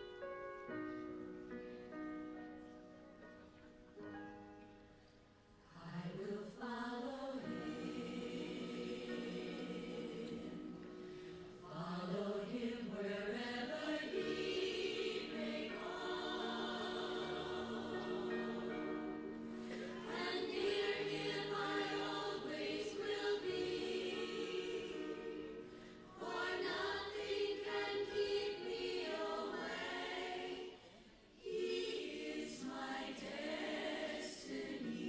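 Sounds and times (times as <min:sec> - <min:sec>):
choir singing: 0:05.7 - 0:35.0.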